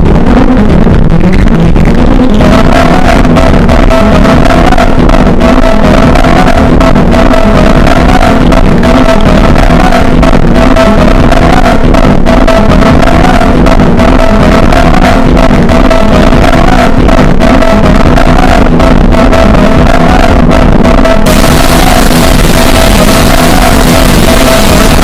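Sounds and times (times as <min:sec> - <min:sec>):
harsh synthesizer noise music: 0:00.0 - 0:25.0.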